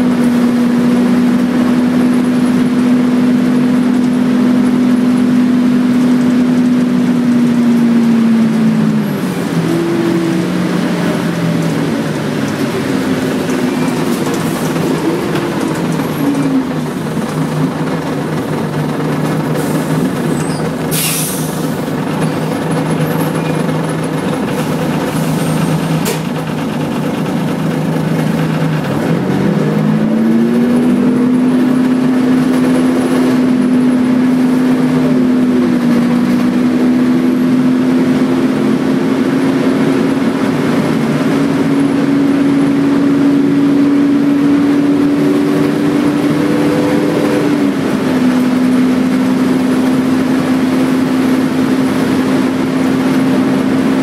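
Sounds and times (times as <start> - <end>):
bus diesel engine: 0.0 - 54.0.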